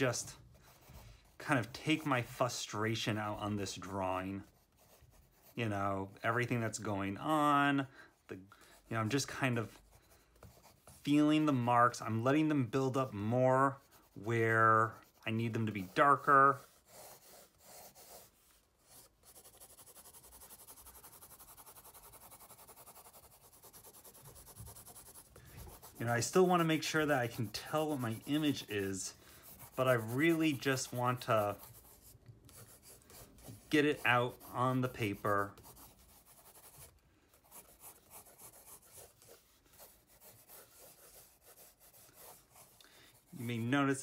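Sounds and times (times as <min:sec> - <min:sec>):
pencil scribbling on paper: 0:00.2 - 0:02.2, 0:04.4 - 0:05.6, 0:08.7 - 0:43.7.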